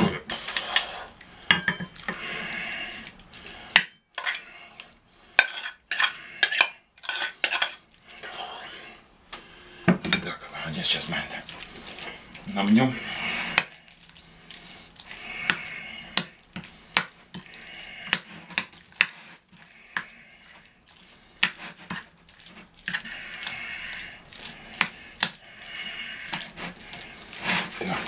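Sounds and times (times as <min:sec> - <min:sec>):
wet squelching of mashed cheese: 0:00.0 - 0:08.8, 0:10.7 - 0:28.0.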